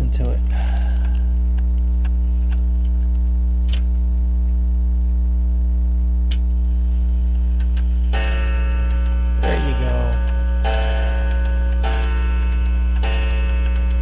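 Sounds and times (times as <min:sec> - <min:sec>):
mains hum: 0:00.0 - 0:14.0.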